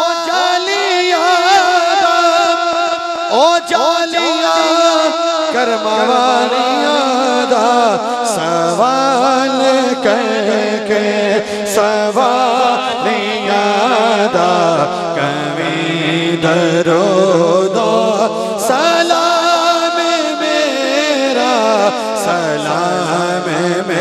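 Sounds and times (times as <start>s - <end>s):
men chanting into microphones: 0.0s - 24.0s.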